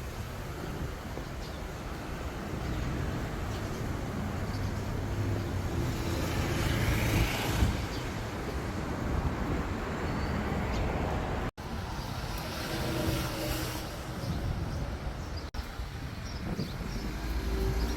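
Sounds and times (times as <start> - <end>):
low hum of traffic: 0.0 - 17.9
wind buffeting microphone: 0.0 - 17.9.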